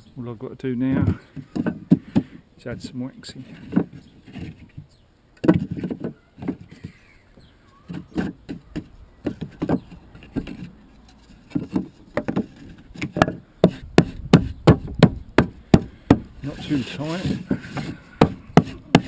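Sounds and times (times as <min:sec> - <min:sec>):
wooden bars knocking and clattering: 0:00.9 - 0:19.0.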